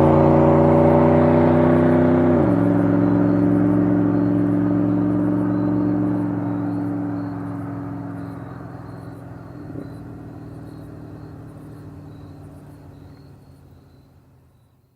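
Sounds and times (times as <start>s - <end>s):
car engine driving away: 0.0s - 14.7s.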